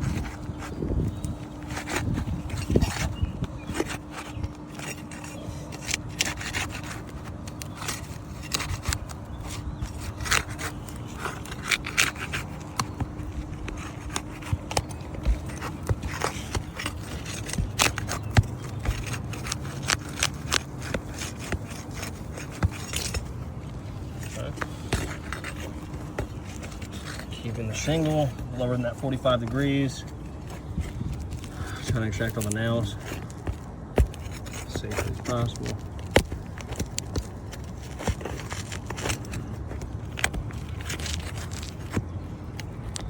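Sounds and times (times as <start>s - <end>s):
hand tool scraping under shingles: 0.0s - 43.0s.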